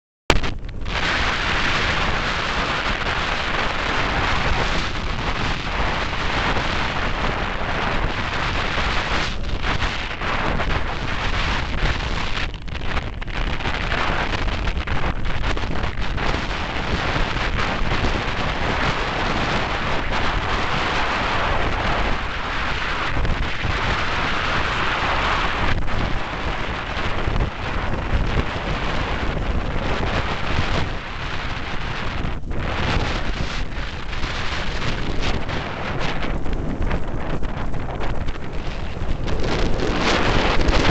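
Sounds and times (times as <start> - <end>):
strong wind buffeting microphone: 0.3 - 40.9.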